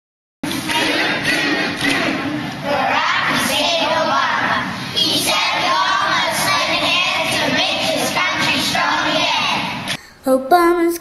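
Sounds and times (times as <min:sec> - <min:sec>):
children singing in unison: 0:00.5 - 0:10.0.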